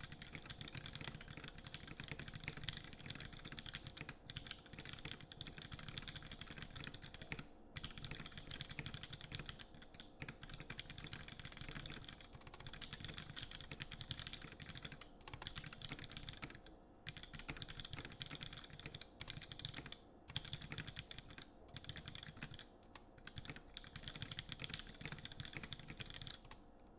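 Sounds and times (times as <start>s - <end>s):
fast mechanical keyboard typing: 0.0s - 26.6s.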